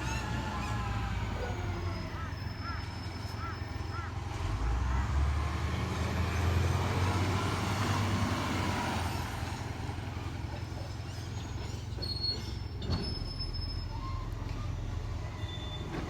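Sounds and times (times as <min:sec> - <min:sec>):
garbage truck engine humming: 0:00.0 - 0:16.0.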